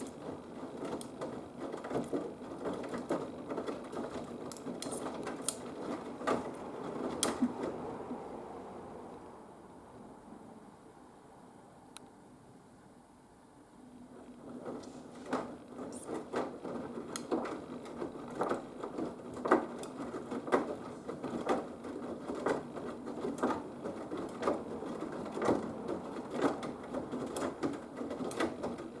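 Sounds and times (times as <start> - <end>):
washing machine drum swishing: 0.0 - 9.1, 14.1 - 29.0.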